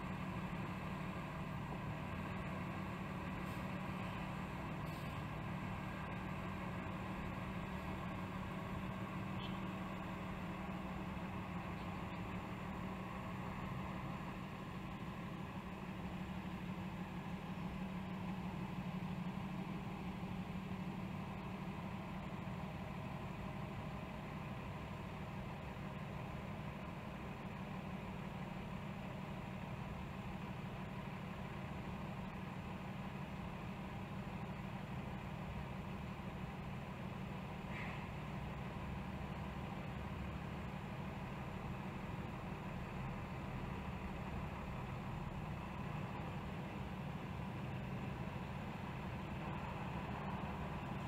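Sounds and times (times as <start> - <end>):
muffled truck engine drone: 0.0 - 51.0.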